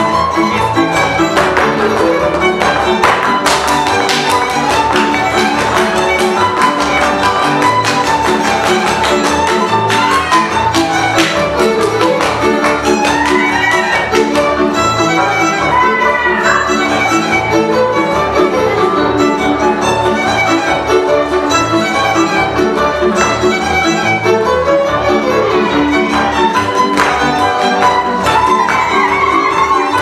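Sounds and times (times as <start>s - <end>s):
bowed double bass: 0.0s - 30.0s
fiddles playing folk melody: 0.0s - 30.0s.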